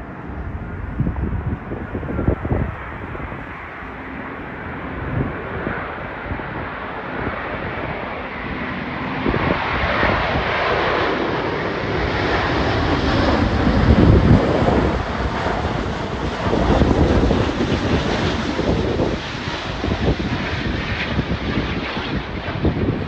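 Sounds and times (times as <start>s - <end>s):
jet airplane approaching: 0.0s - 23.0s
wind buffeting microphone: 0.0s - 23.0s.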